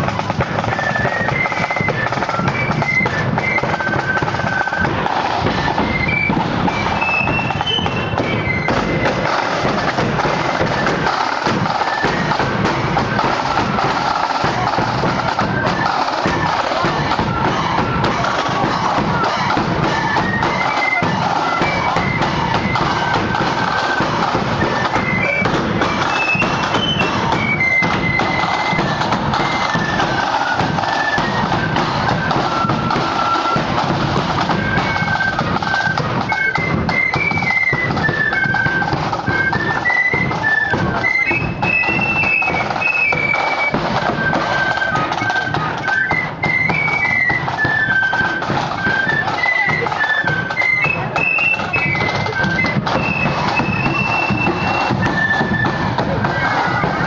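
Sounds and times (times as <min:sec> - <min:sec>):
flute band playing a march: 0:00.0 - 0:57.0
marching drums beating: 0:00.0 - 0:57.0.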